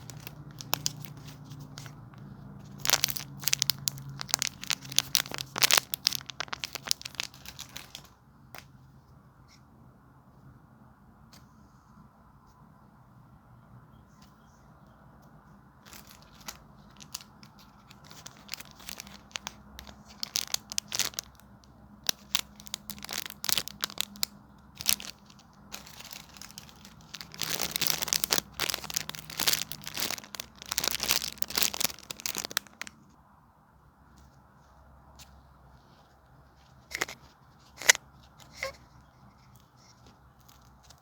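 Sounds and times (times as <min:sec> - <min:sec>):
squishy crinkling and crackling: 0:00.0 - 0:08.7, 0:15.8 - 0:33.2, 0:34.1 - 0:41.0.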